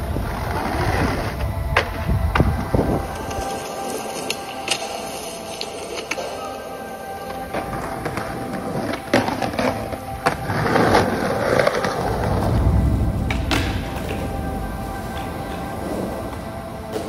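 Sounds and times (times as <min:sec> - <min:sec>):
skateboard clacks: 0:00.0 - 0:06.5, 0:07.2 - 0:17.0
skateboards rolling on concrete: 0:00.0 - 0:17.0.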